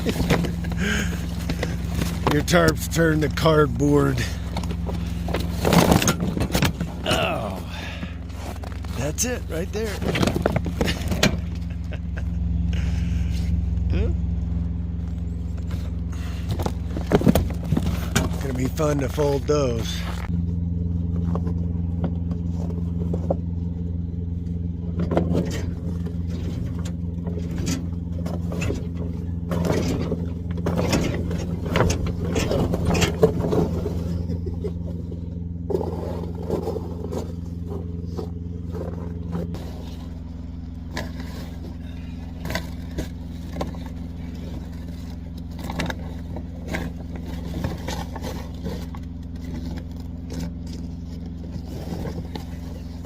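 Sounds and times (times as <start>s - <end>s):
engine idling: 0.0s - 53.0s
frozen tarps crackling and scraping: 0.0s - 53.0s.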